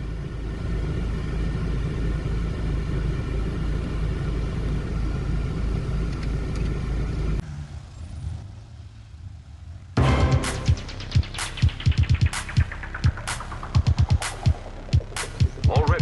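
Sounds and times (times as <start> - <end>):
suv engine rumbling: 0.0 - 16.0.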